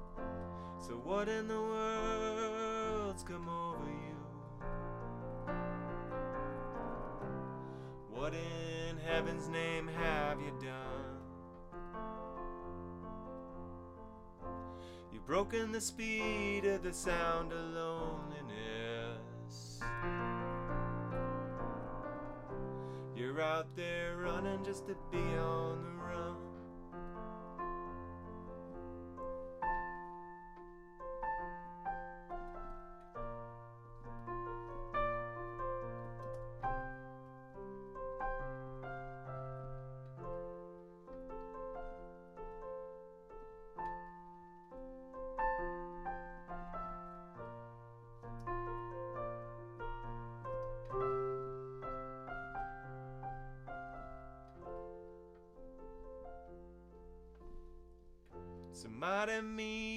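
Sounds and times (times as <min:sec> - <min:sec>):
solo piano playing: 0:00.0 - 0:59.9.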